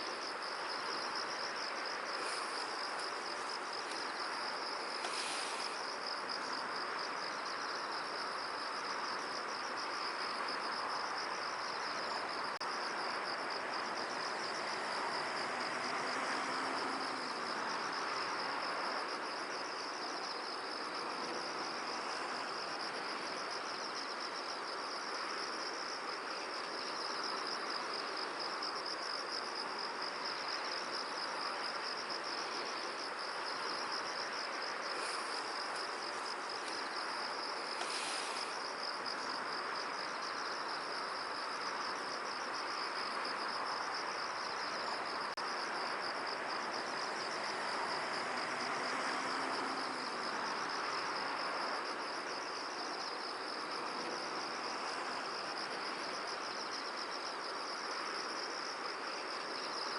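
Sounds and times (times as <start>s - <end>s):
insects trilling: 0.0s - 59.9s
wind through a field: 0.0s - 59.9s.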